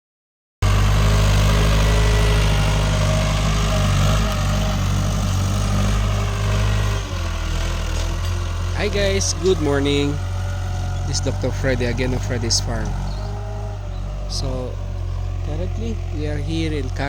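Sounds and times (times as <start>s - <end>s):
tractor engine running under load: 0.6s - 17.0s.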